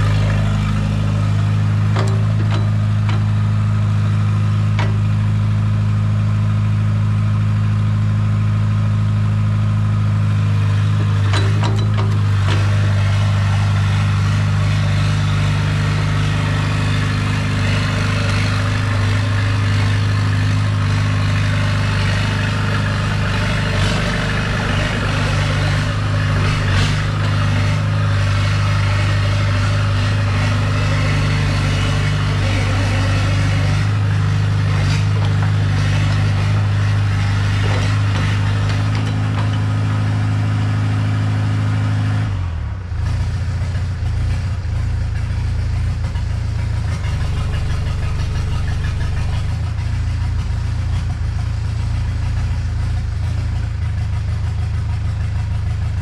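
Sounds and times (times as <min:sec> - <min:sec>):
excavator diesel engine idling: 0:00.0 - 0:56.0.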